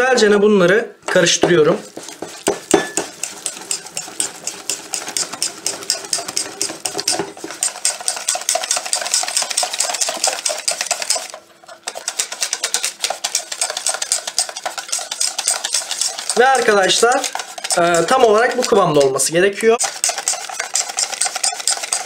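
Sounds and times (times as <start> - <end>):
whisk scraping steel bowl: 1.1 - 22.0.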